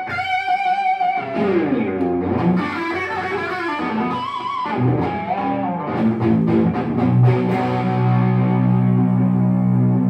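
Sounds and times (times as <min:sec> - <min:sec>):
electric guitar chord ringing: 0:00.0 - 0:10.0.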